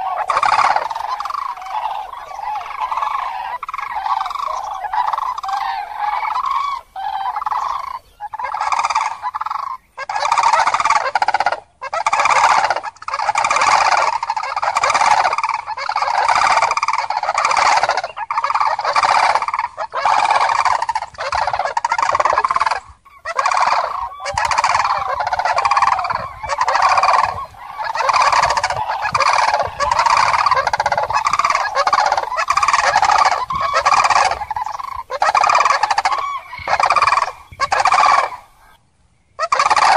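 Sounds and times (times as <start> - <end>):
cranes trumpeting calls: 0.0 - 38.8, 39.4 - 39.9.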